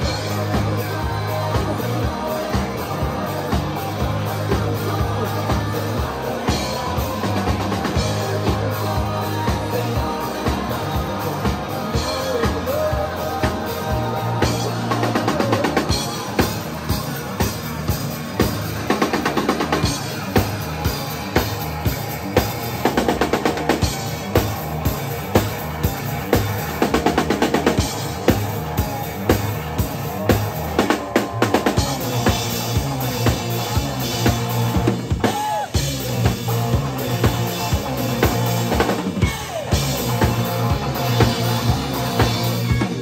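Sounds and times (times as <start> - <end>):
bass guitar: 0.0 - 43.0
drum kit: 0.0 - 43.0
electric guitar: 0.0 - 43.0.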